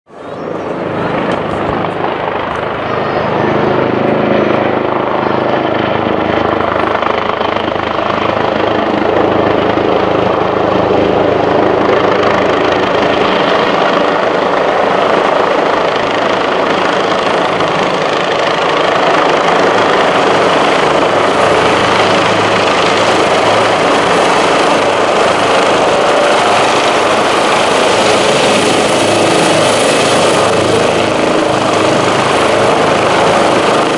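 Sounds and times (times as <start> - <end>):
helicopter rotor beat: 0.1 - 33.9.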